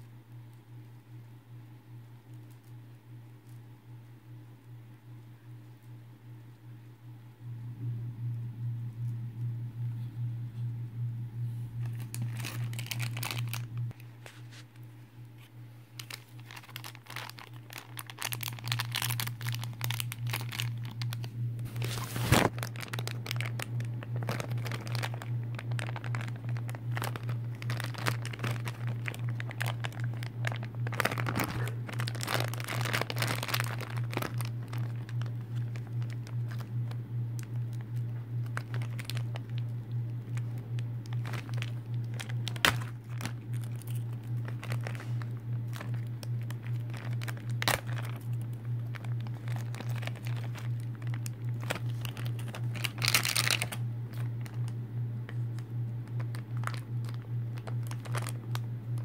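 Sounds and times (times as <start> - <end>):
low hum: 0.0 - 59.0
plastic packaging crinkling: 11.7 - 59.0.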